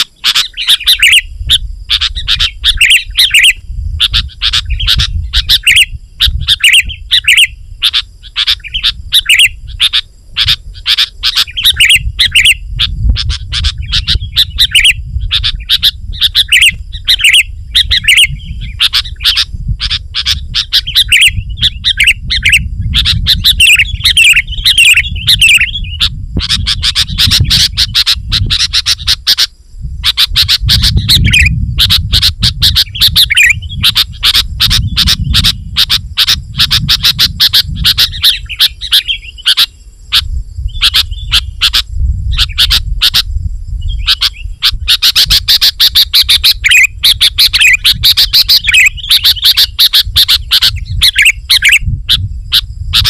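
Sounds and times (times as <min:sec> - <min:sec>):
bird chirping: 0:00.0 - 0:53.0
steady low rumble: 0:01.2 - 0:53.0.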